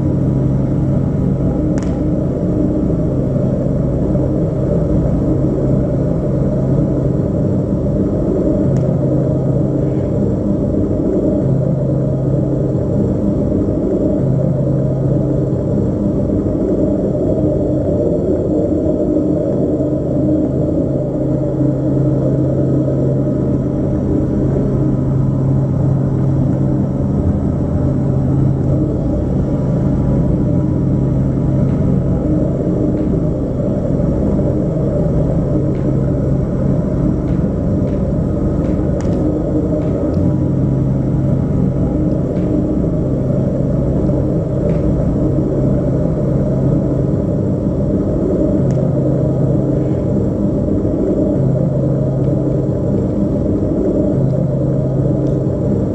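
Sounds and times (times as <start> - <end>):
low droning music: 0.0 - 55.9
low hum: 0.0 - 55.9.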